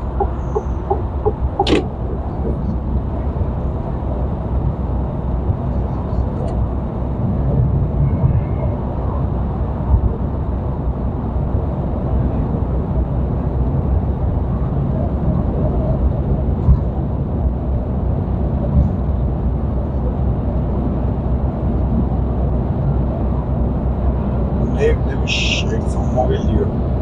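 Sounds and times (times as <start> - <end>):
road and tyre noise: 0.0 - 27.0
truck engine hum: 0.0 - 27.0.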